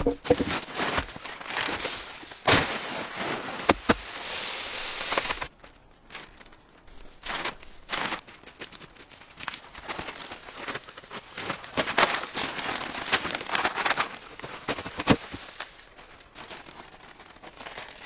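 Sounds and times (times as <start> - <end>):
dry material rustling and crackling: 0.0 - 18.0.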